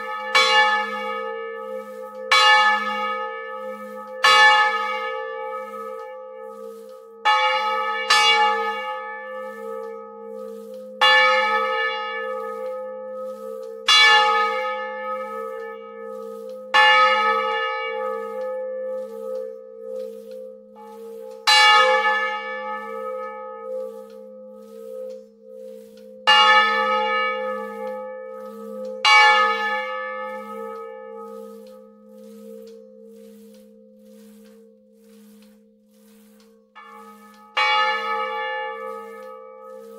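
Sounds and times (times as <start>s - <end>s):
church bell clanging: 0.0s - 33.1s, 36.8s - 39.9s.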